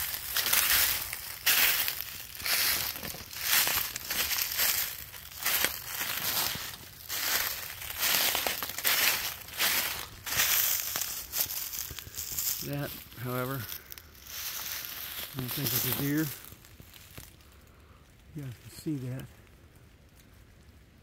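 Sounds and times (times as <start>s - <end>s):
footsteps crunching dry leaves: 0.0s - 17.4s.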